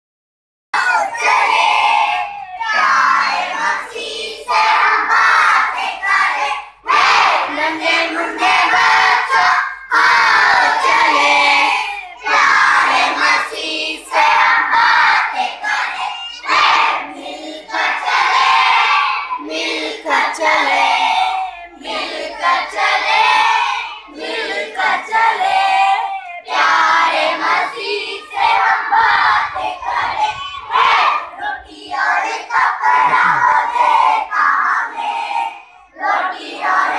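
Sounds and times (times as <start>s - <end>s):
children singing loudly: 0.8s - 36.9s.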